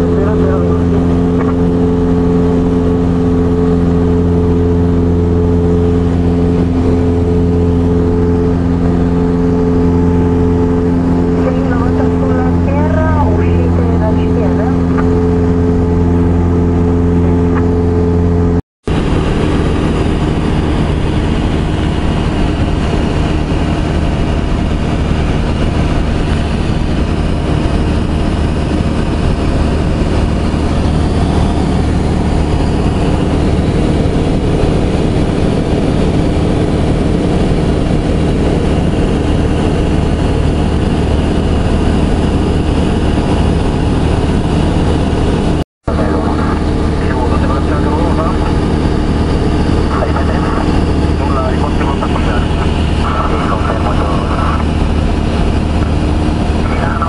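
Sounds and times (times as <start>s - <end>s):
airflow rushing: 0.0s - 57.0s
airplane engine droning: 0.0s - 57.0s.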